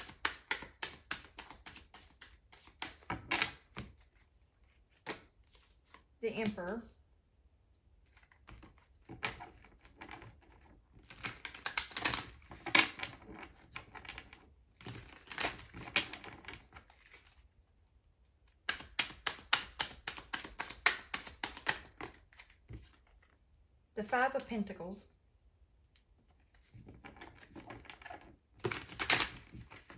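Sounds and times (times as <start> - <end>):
cards shuffling: 0.0 - 6.9, 8.0 - 17.5, 18.5 - 23.4, 26.3 - 29.9.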